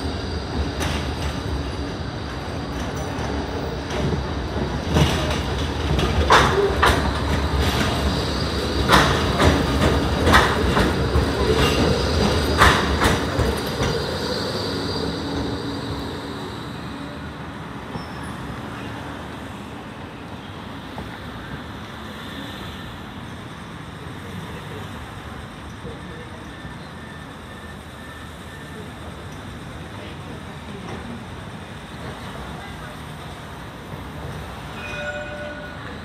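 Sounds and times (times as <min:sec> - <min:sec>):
tram wheels clacking: 0:00.0 - 0:22.0, 0:24.2 - 0:36.0
tram rumble: 0:00.0 - 0:36.0.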